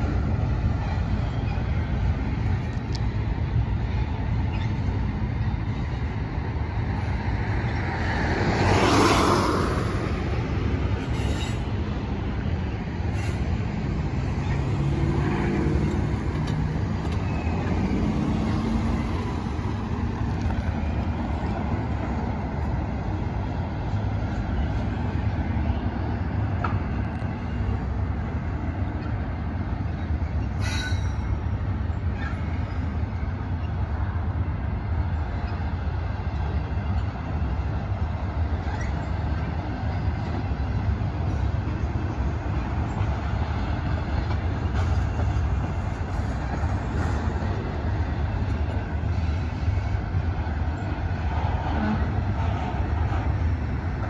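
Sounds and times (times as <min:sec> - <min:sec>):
train rumbling across bridge: 0:00.0 - 0:54.0.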